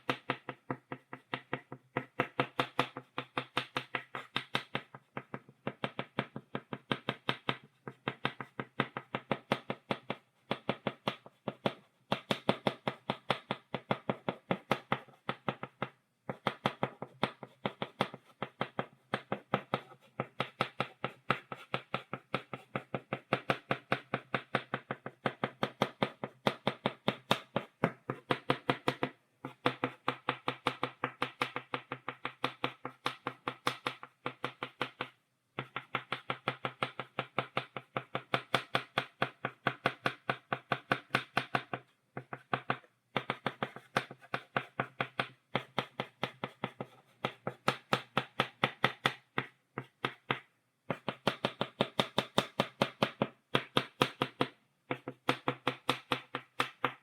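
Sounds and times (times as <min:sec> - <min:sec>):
chalk tapping on blackboard: 0:00.0 - 0:57.0.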